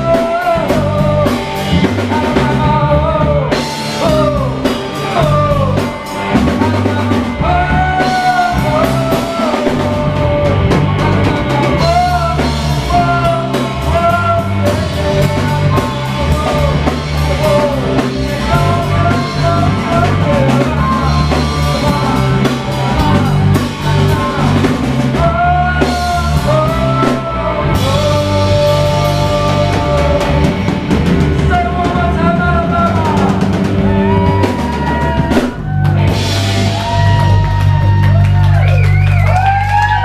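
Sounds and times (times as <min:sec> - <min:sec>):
rock band playing: 0:00.0 - 0:40.0.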